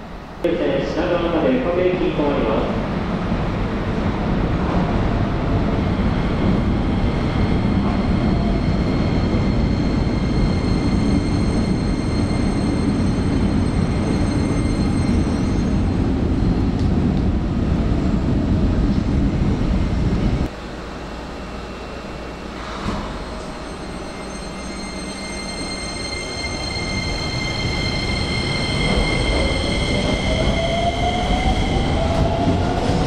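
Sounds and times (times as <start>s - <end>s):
electric train rumbling past: 0.0s - 33.0s.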